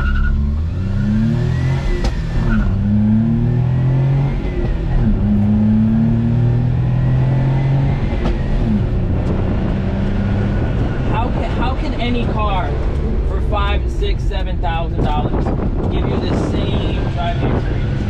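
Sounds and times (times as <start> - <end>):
truck engine accelerating: 0.0 - 18.0.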